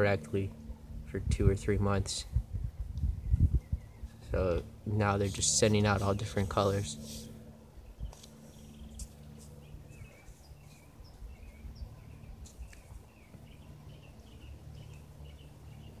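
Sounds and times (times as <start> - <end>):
low steady drone: 0.0 - 16.0
small birds chirping: 2.8 - 16.0.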